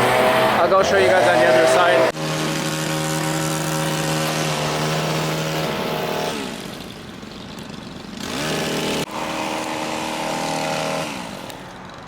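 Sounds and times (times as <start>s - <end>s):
hedge trimmer engine revving: 0.0s - 12.0s.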